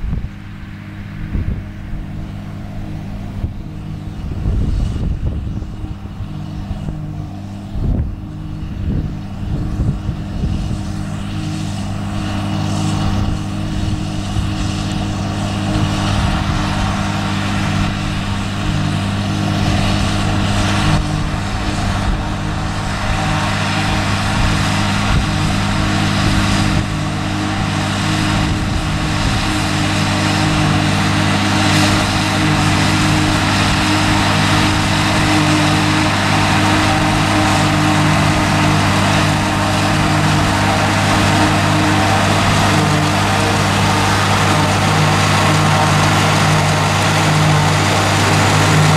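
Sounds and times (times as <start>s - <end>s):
forage harvester chopper whirring: 0.0s - 48.9s
tractor diesel engine running: 0.0s - 48.9s.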